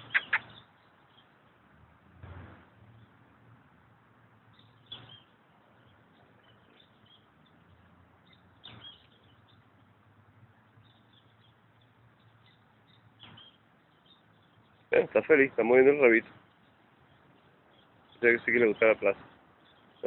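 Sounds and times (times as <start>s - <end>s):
faint high bird chirps: 0.0s - 1.5s, 4.5s - 20.0s.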